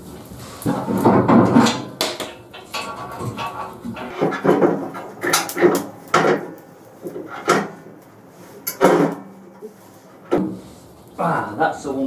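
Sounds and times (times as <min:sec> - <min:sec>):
metal clunks and scraping knocks: 0:00.6 - 0:10.9.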